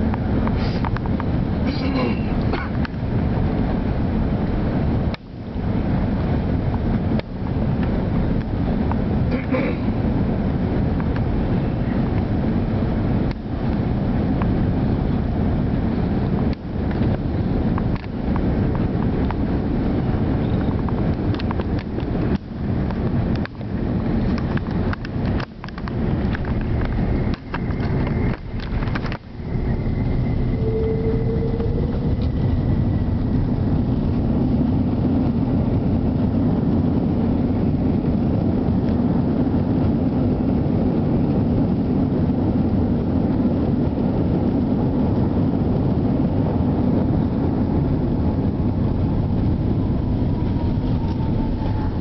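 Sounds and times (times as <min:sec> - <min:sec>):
aircraft engine and airflow rush: 0:00.0 - 0:52.0.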